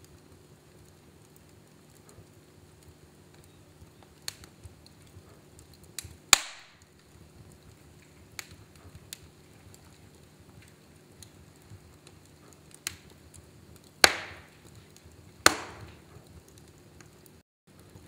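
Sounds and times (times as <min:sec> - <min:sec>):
fire sharp pops: 0:00.0 - 0:18.0
wood fire crackling: 0:00.0 - 0:18.0.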